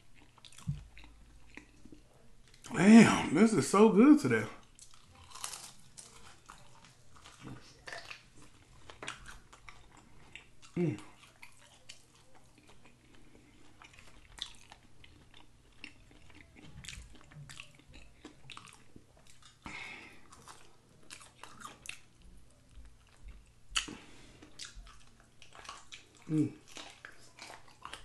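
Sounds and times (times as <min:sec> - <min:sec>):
chewing and crunching: 0:00.0 - 0:02.7, 0:04.0 - 0:28.0.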